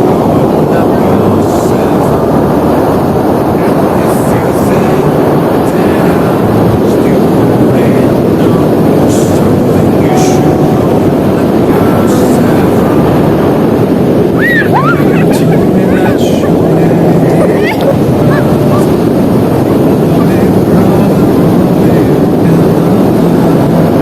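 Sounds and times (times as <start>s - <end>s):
ocean surf rushing: 0.0s - 24.0s
wind buffeting microphone: 0.0s - 24.0s.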